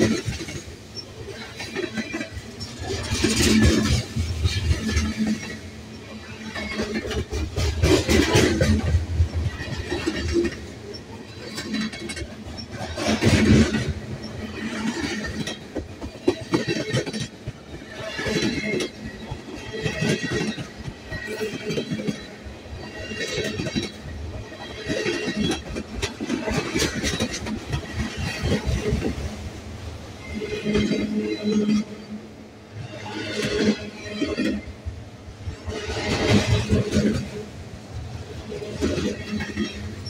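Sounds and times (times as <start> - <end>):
train wheels clacking over rail joints: 0.0 - 29.5, 32.7 - 40.0
steady train rumble: 0.0 - 40.0.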